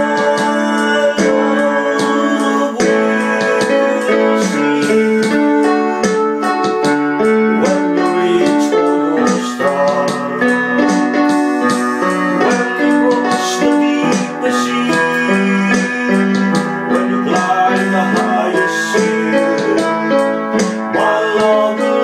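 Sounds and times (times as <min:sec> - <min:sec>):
electronic keyboard piano melody: 0:00.0 - 0:22.0.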